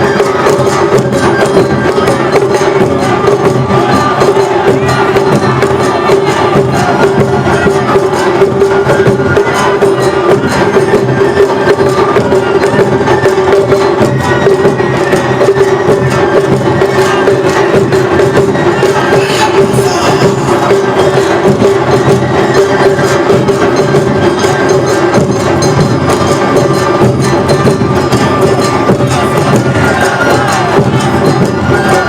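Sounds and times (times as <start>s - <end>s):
fast percussion strikes: 0.0s - 32.0s.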